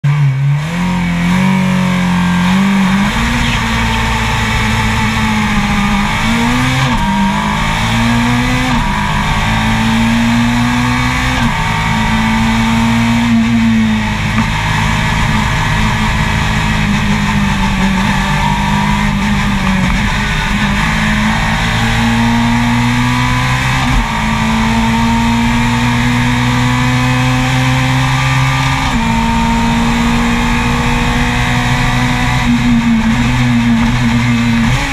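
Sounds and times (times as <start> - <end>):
race car engine at full throttle: 0.0 - 34.9.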